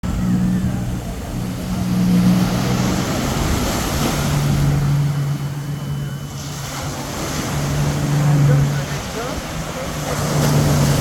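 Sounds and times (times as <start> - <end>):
low motor drone: 0.0 - 11.0
surf on a beach: 0.0 - 11.0.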